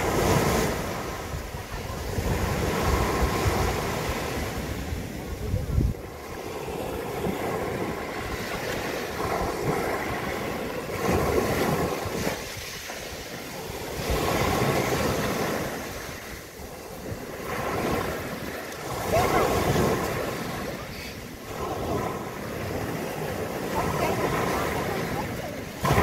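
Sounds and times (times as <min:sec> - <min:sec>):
waves washing up pebble beach: 0:00.0 - 0:26.0.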